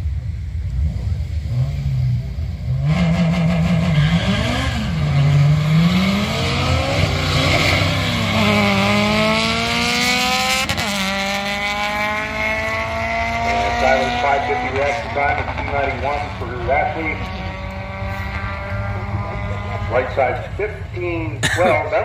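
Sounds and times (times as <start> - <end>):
car engines accelerating hard: 0.0 - 22.0.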